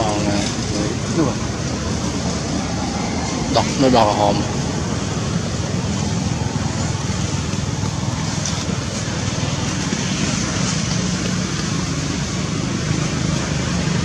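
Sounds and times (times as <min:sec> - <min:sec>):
steady rushing noise with low rumble: 0:00.0 - 0:14.0.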